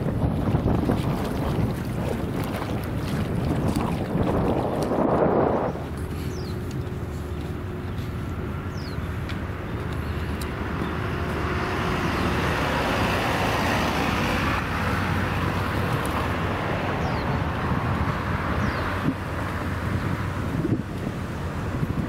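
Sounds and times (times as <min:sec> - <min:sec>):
low rumble: 0:00.0 - 0:18.5
hum of cars: 0:00.0 - 0:22.0.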